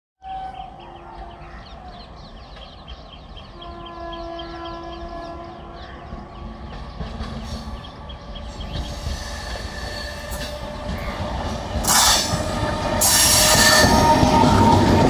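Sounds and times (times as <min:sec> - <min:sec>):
train wheels rumbling on track: 0:00.6 - 0:15.0.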